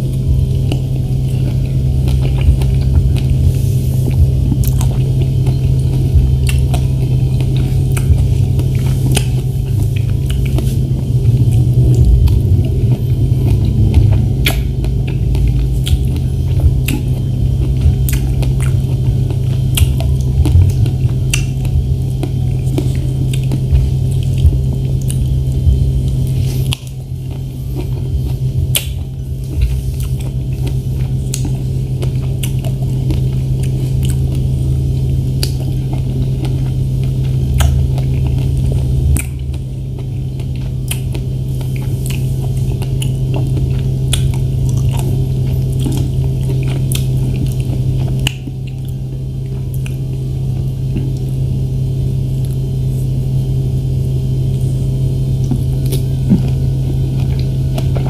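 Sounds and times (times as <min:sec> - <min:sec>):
chewing strawberries: 0:00.0 - 0:58.0
steady low hum: 0:00.0 - 0:58.0.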